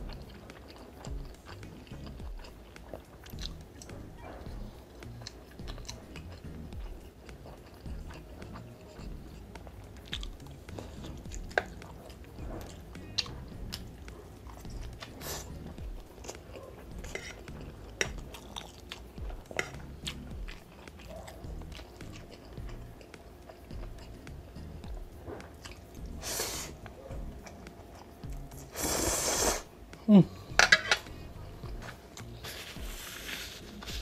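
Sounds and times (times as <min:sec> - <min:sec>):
chewing and biting mouth sounds: 0:00.0 - 0:34.0.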